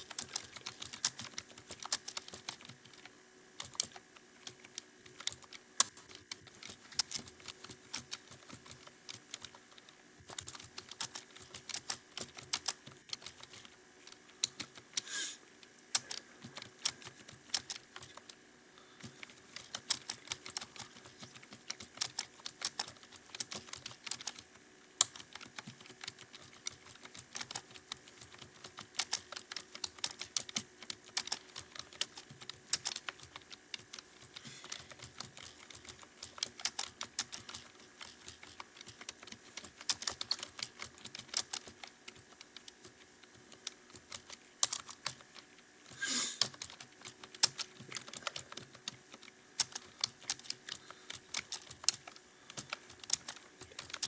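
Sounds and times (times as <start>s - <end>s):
fast keyboard typing: 0.0s - 15.1s, 15.9s - 18.4s, 19.0s - 54.0s.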